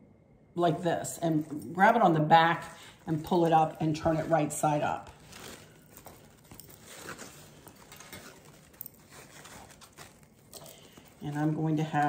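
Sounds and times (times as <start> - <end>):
fabric ribbon rustling and crinkling: 0.8 - 12.0.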